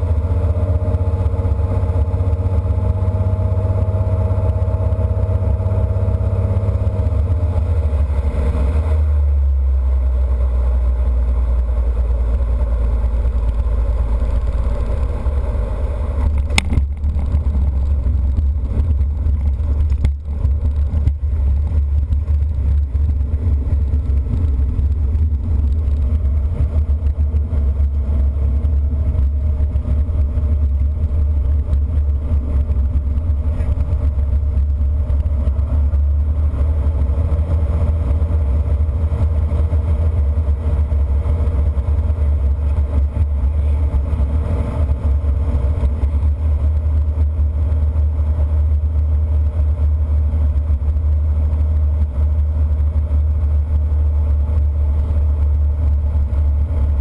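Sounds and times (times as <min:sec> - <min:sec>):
propeller airplane engine droning: 0:00.0 - 0:57.0.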